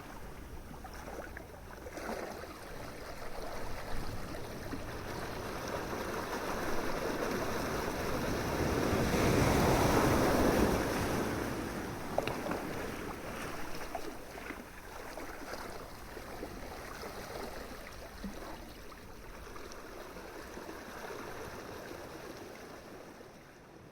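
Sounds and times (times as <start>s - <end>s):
crackles of water and foam: 0.0s - 23.9s.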